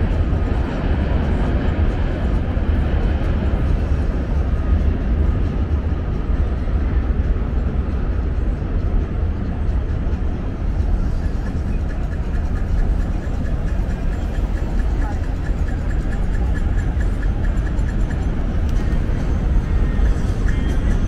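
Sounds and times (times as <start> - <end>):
road traffic: 0.0 - 21.0
subway train crossing bridge: 0.0 - 21.0.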